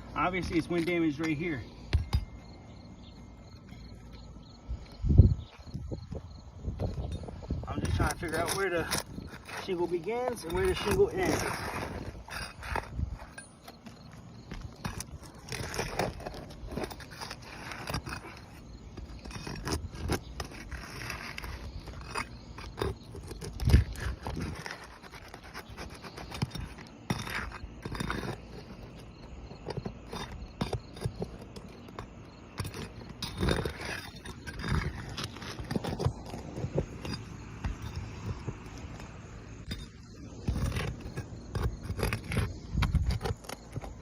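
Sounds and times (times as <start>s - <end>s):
roof shingle scraping and crackling: 0.0s - 44.0s.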